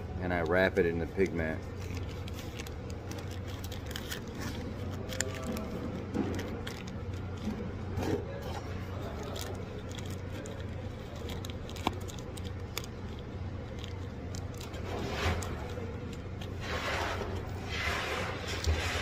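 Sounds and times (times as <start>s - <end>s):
steady low hum: 0.0s - 19.0s
rustling and scraping: 1.0s - 19.0s.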